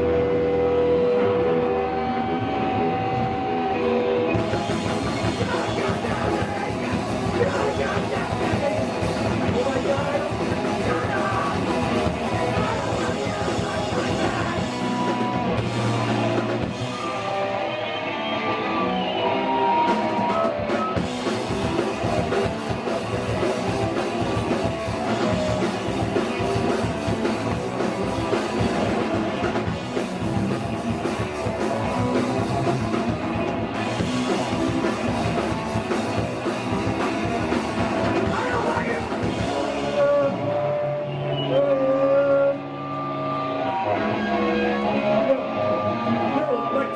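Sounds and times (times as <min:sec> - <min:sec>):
punk band playing live: 0:00.0 - 0:46.9.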